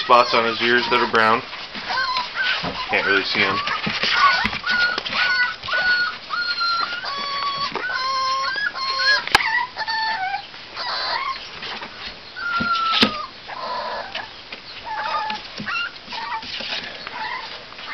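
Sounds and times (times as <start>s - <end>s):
puppies whining and squealing: 0.0s - 17.9s.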